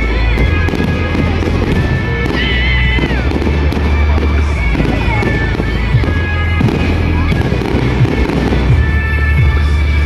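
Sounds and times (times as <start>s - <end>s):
fireworks bursting and crackling: 0.0s - 10.0s
loud music: 0.0s - 10.0s.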